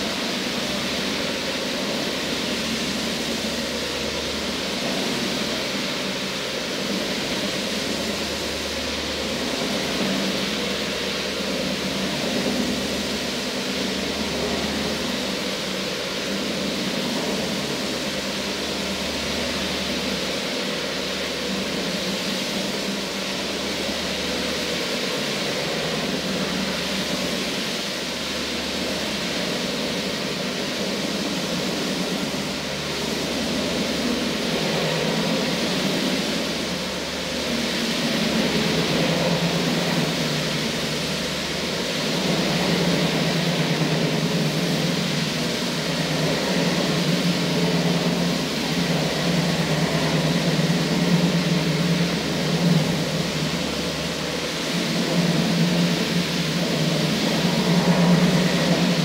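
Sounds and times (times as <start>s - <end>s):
floor grinding machine: 0.0s - 59.0s.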